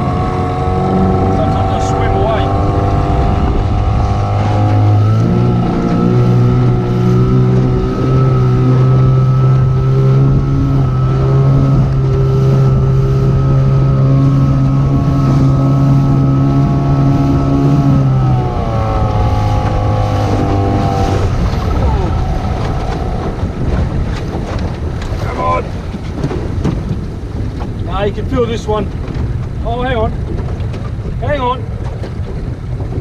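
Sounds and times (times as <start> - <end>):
boat engine: 0.0 - 33.0
wind on microphone: 0.0 - 33.0.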